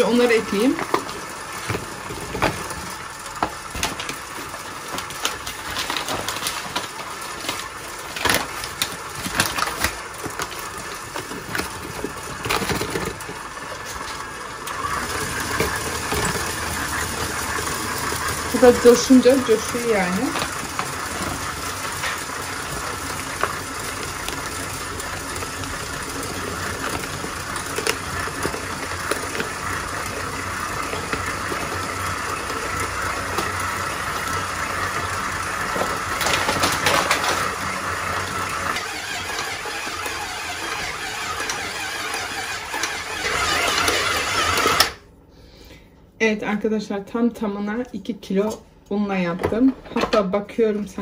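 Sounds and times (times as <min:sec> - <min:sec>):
dough mixer motor hum: 0:00.0 - 0:45.0.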